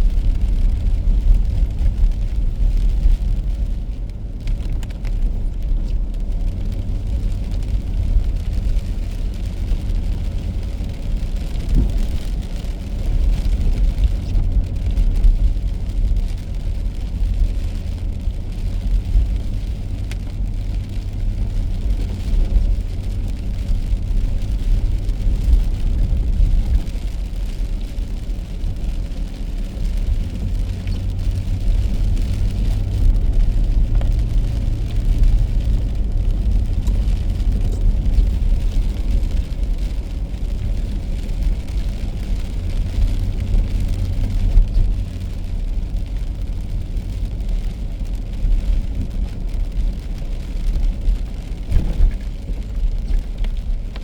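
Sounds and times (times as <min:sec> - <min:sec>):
faint rain ticks: 0:00.0 - 0:54.0
tyres and engine rumble: 0:00.0 - 0:54.0.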